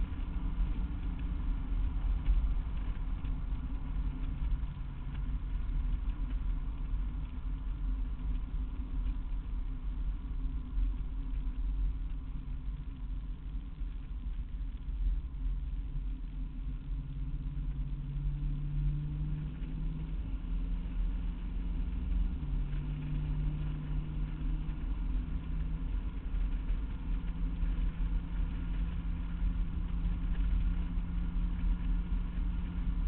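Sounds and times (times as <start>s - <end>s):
road noise rumble: 0.0s - 33.0s.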